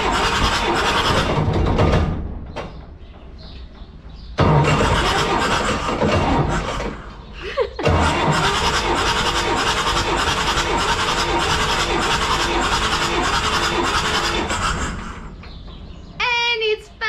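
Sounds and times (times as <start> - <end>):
diesel engine cranking: 0.0 - 2.9, 4.3 - 16.1.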